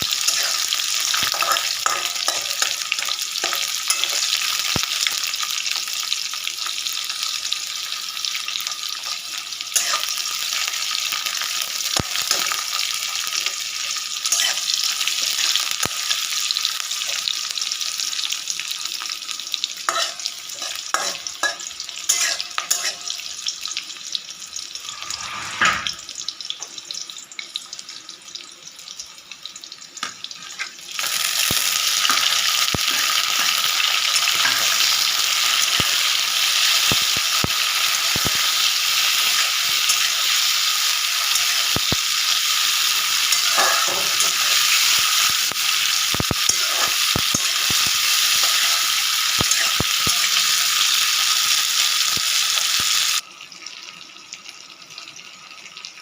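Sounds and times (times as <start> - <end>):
food sizzling in oil: 0.0 - 56.0.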